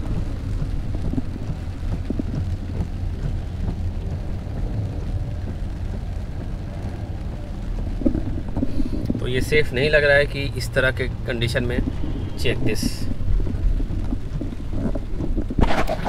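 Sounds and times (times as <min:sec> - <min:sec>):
rain on car: 0:00.0 - 0:16.0
tyres rumbling on wet road: 0:00.0 - 0:16.0.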